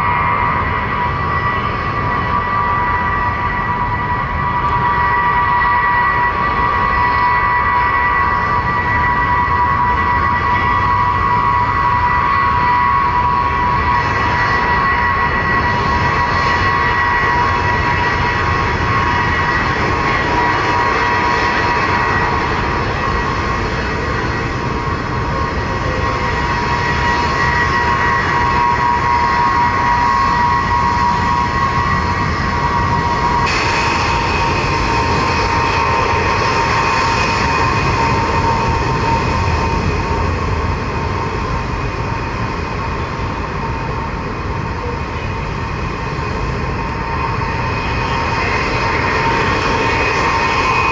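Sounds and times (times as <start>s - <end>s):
high turbine whine: 0.0s - 50.9s
jet engines running: 0.0s - 50.9s.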